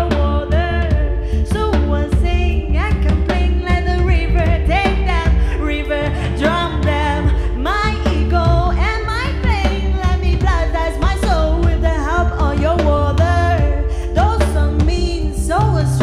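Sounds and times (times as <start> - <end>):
band playing live with singer: 0.0 - 16.0.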